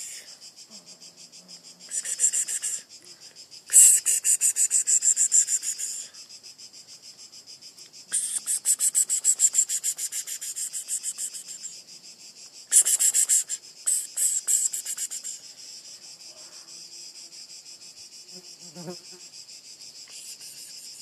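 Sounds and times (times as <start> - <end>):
insect buzzing: 0.0 - 21.0.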